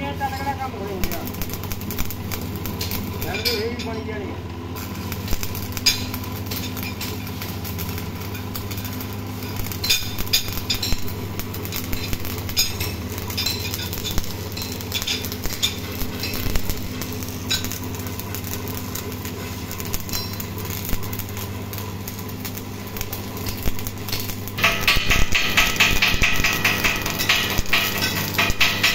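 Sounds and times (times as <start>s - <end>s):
arc welding hum: 0.0s - 28.9s
welding crackles and clicks: 0.0s - 28.9s.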